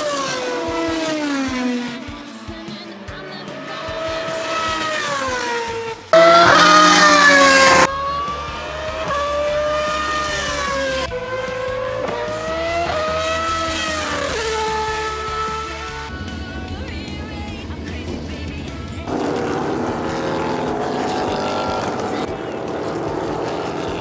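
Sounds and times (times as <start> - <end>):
racing engines at high revs: 0.0 - 24.0.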